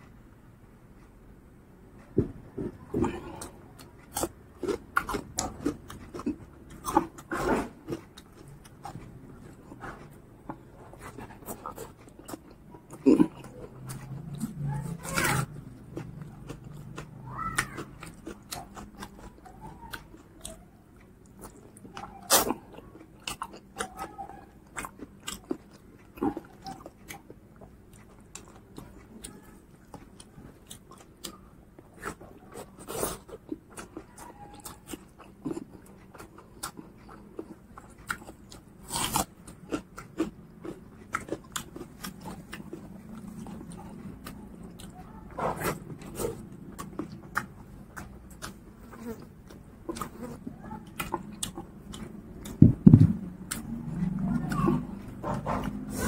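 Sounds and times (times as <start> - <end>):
chewing and mouth clicks: 3.0 - 56.0.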